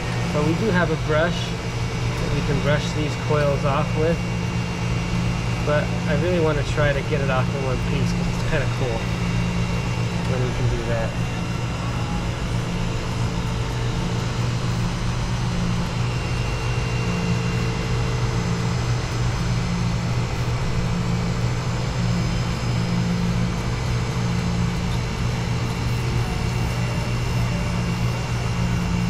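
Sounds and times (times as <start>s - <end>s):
condenser fan rushing: 0.0s - 29.0s
refrigerator condensing unit humming: 0.0s - 29.0s.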